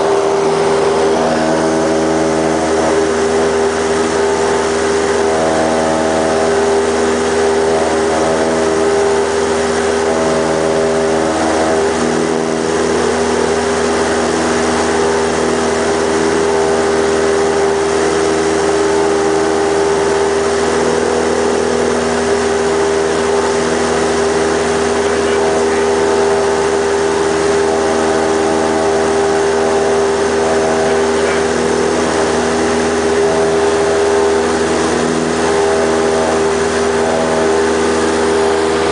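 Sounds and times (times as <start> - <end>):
light aircraft engine and propeller droning: 0.0 - 38.9.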